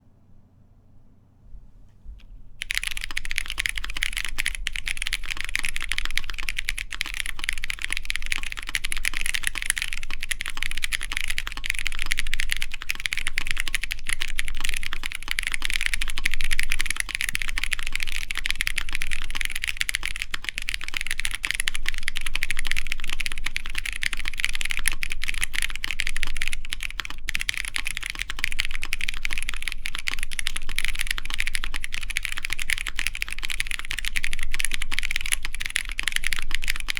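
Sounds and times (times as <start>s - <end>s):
mechanical keyboard typing: 2.6s - 36.9s.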